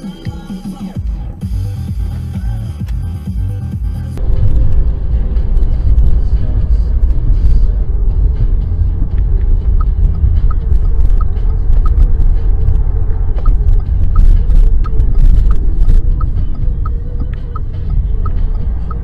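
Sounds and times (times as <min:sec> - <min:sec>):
engine and tyre rumble: 0:01.0 - 0:19.0.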